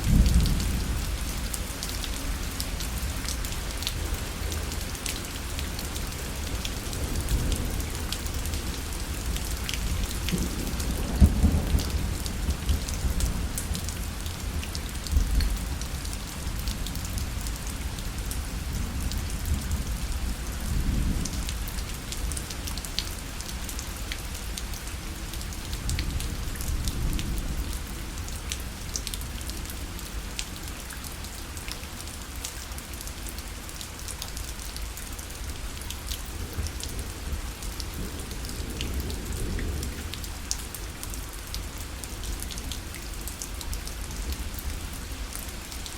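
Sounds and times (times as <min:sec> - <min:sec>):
rain tapping on a parasol: 0:00.0 - 0:45.9.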